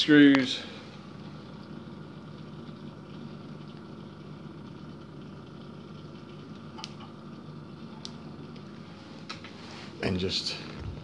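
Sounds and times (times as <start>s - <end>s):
drain pump humming: 0.0s - 11.0s.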